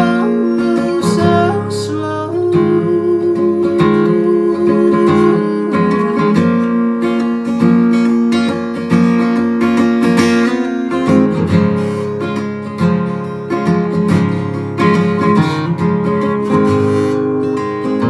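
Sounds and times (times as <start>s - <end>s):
acoustic guitar strumming and plucking: 0.0s - 18.0s.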